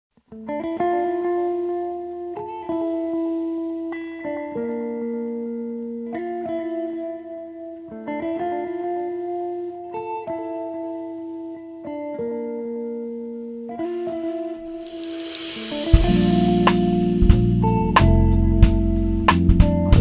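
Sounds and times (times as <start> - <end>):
plucked guitar notes: 0.2 - 20.0.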